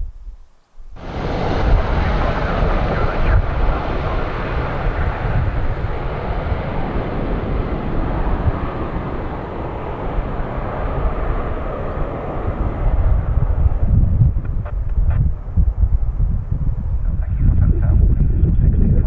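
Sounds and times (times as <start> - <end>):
jet airliner engine noise: 1.0 - 19.0.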